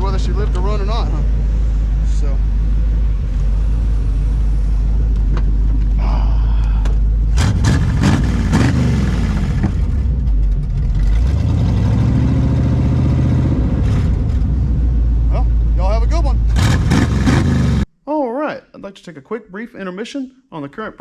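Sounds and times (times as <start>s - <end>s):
car engine revving: 0.0s - 6.0s, 6.8s - 17.9s.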